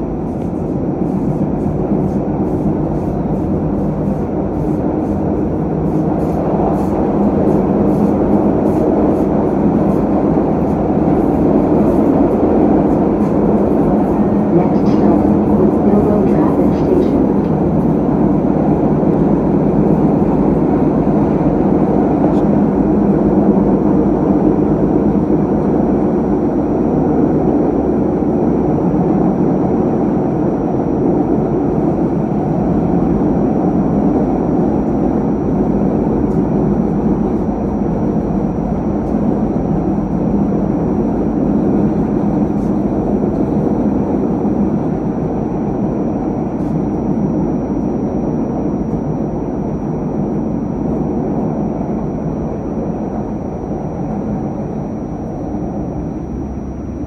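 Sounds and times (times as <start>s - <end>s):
train wheels rumbling on track: 0.0s - 47.2s.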